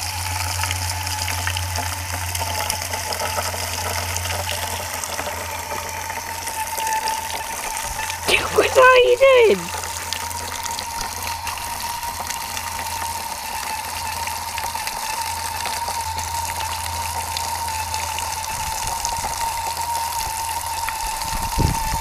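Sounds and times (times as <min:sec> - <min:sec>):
water gushing into metal bowl: 0:00.0 - 0:22.0.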